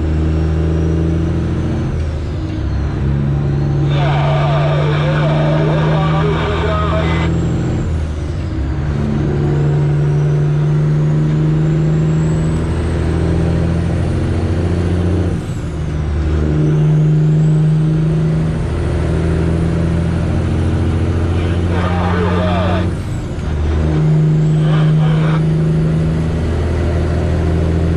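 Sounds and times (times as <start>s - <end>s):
diesel truck engine under load: 0.0s - 27.9s.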